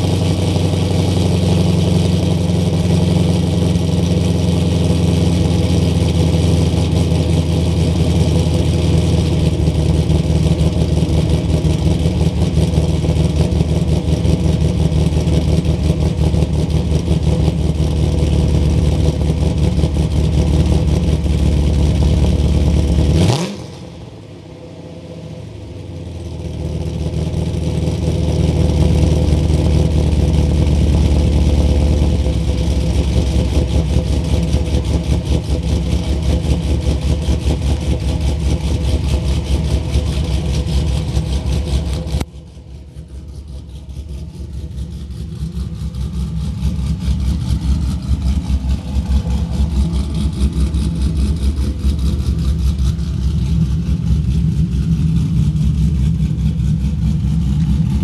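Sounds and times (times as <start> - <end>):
car engine idling with choppy lope: 0.0 - 58.0.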